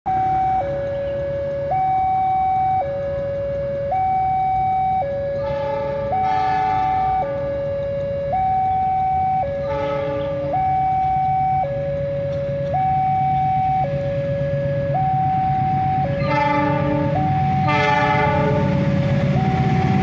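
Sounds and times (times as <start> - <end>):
level-crossing two-tone alarm: 0.1 - 20.0.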